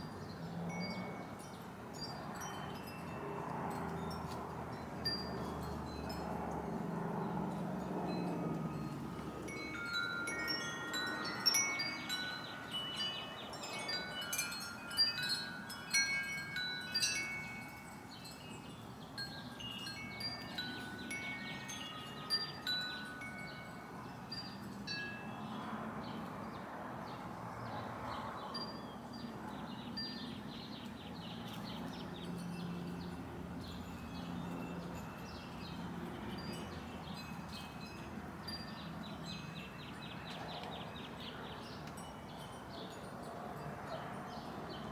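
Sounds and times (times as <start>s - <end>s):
wind chimes ringing: 0.0s - 26.0s, 31.5s - 44.9s.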